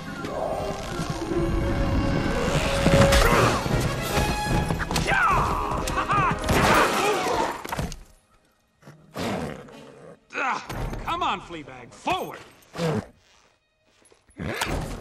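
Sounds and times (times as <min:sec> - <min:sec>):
orchestral film score: 0:00.0 - 0:15.0.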